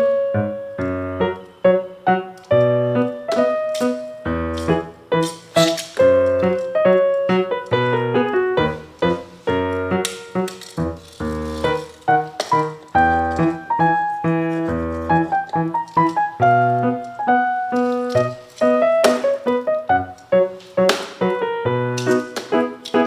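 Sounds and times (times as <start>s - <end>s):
piano tune: 0.0s - 23.0s.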